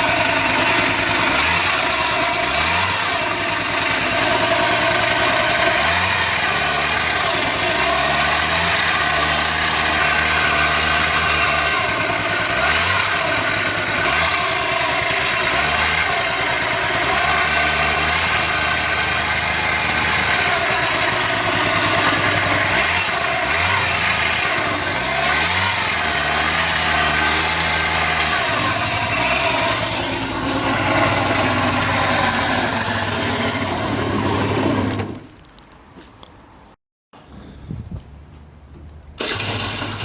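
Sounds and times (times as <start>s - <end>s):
scooter engine running: 0.0s - 35.3s, 39.2s - 40.0s.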